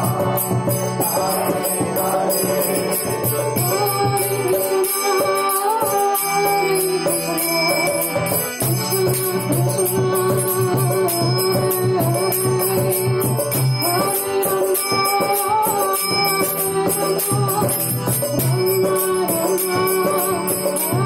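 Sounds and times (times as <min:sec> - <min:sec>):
hand cymbals struck: 0:00.0 - 0:21.0.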